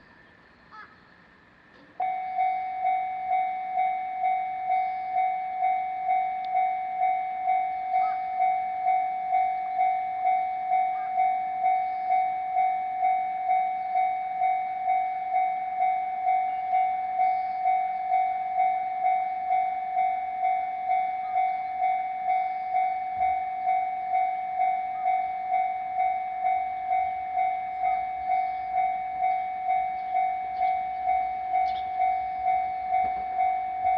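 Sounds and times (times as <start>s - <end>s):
level-crossing warning bell: 2.0s - 33.9s.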